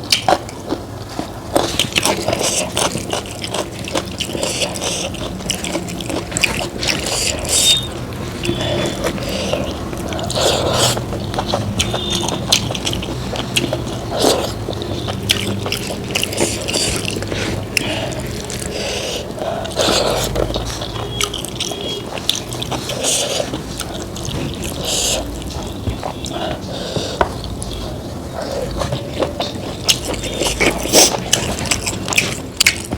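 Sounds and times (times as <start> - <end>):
chewing and biting: 0.0 - 32.9.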